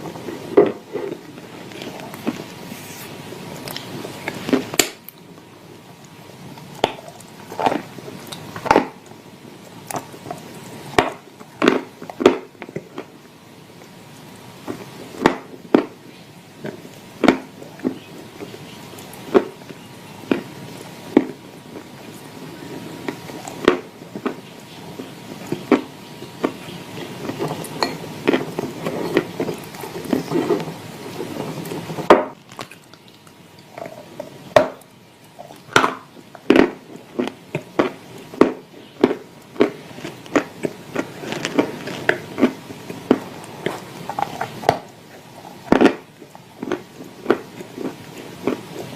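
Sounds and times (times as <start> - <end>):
chewing dry clay crunches: 0.0 - 48.9.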